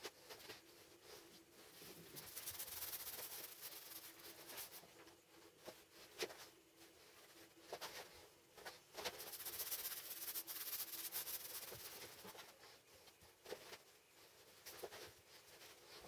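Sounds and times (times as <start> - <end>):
rubbing and scraping on a surface: 0.0 - 16.0.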